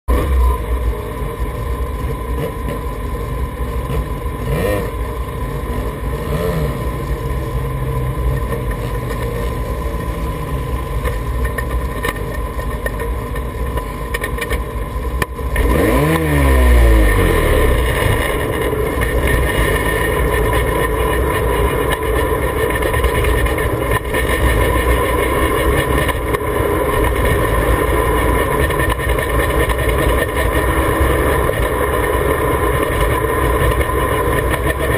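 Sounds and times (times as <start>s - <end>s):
race car rotary engine revving: 2.0s - 14.6s, 15.2s - 34.9s.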